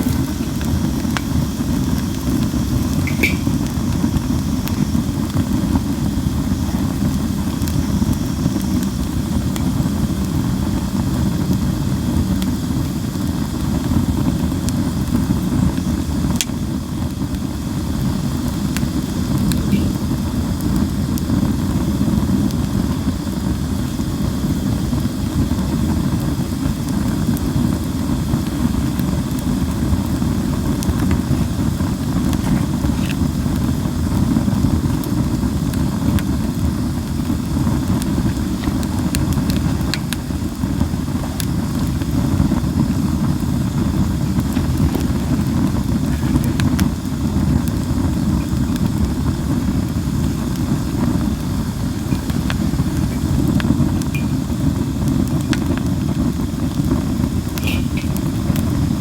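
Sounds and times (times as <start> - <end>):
campfire flames rumbling: 0.0 - 59.0
wood popping in fire: 0.0 - 59.0.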